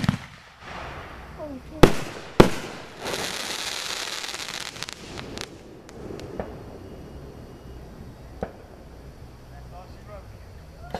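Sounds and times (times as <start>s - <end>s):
fireworks crackling and popping: 0.0s - 10.9s.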